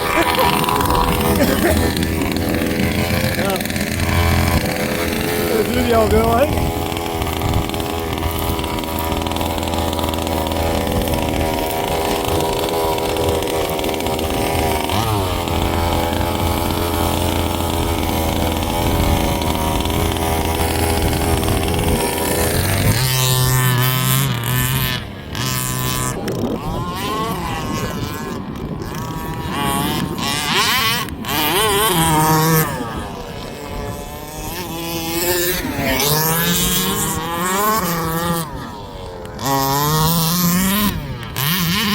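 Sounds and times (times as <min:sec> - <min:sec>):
small two-stroke engines revving: 0:00.0 - 0:41.9.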